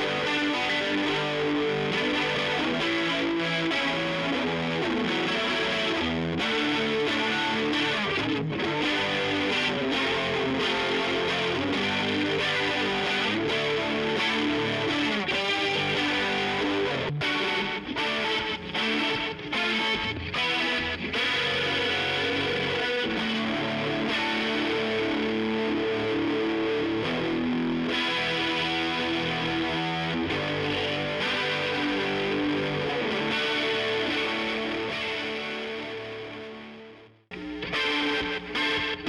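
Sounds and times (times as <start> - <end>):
electric guitar strumming chords: 0.0 - 39.0.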